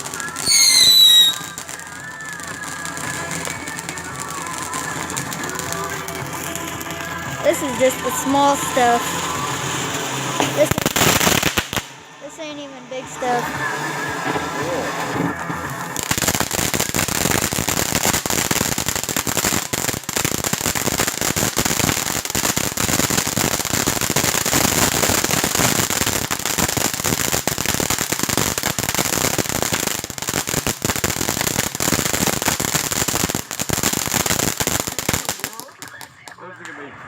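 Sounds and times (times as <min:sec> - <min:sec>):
firework crackling pops: 0:00.0 - 0:12.1, 0:13.2 - 0:36.9.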